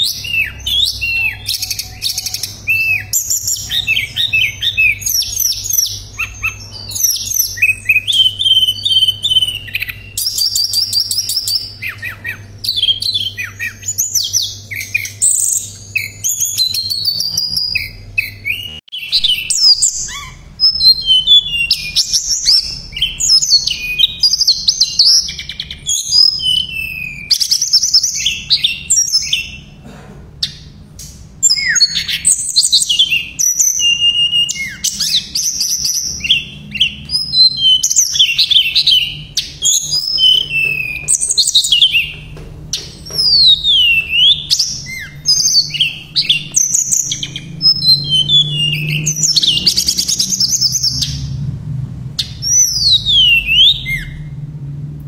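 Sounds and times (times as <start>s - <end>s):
songbird singing: 0.0s - 29.8s, 30.4s - 51.5s, 52.2s - 54.7s.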